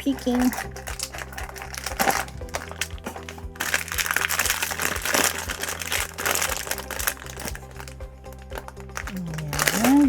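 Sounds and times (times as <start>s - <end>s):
packaging crinkling by hand: 0.0s - 10.0s.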